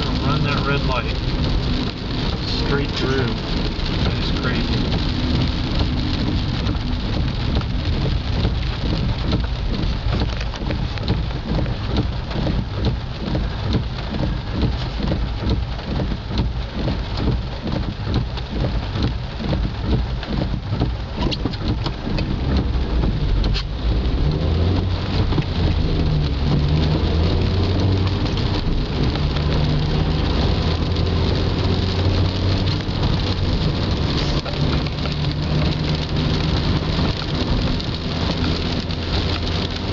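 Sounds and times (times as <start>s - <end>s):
low engine hum: 0.0s - 39.9s
rain on car windshield and roof: 0.0s - 39.9s
tyres hissing on wet road: 0.0s - 39.9s.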